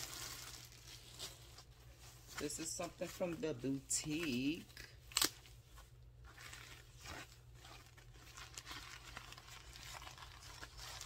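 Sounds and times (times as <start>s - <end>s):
tissue paper rustling: 0.0s - 4.6s, 5.6s - 11.0s.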